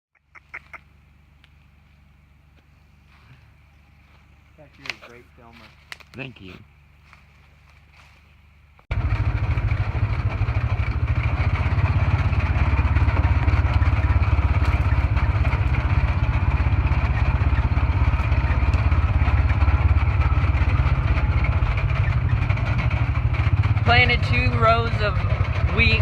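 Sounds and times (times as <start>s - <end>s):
utility vehicle engine rumbling: 0.2s - 26.0s.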